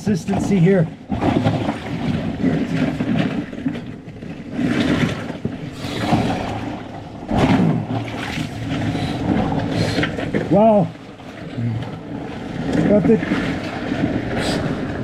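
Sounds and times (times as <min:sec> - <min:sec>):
ice water sloshing and churning: 0:00.0 - 0:15.0.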